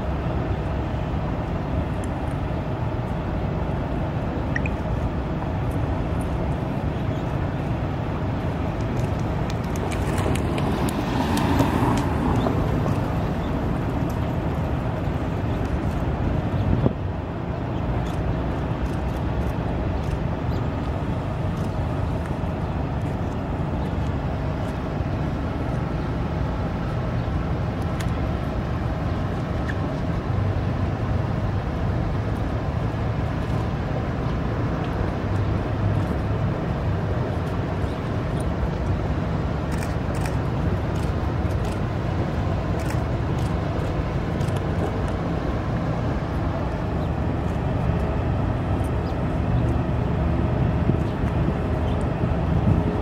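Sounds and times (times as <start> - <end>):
rumble of outdoor crowd: 0.0 - 53.0.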